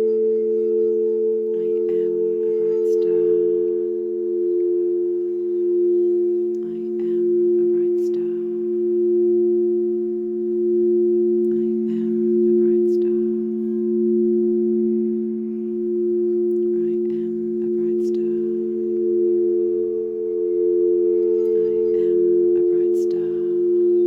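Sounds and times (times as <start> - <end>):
singing bowls ringing drone: 0.0 - 24.0.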